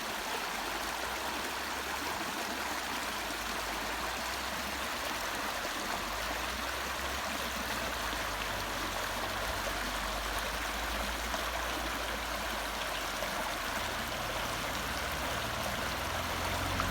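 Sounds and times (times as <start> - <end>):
brook babbling: 0.0 - 16.9.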